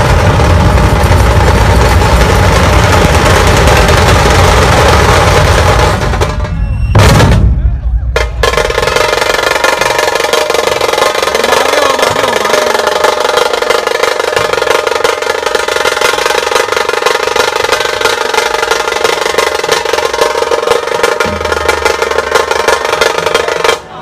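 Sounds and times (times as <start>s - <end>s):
fast continuous drumming: 0.0s - 7.4s, 8.2s - 23.9s.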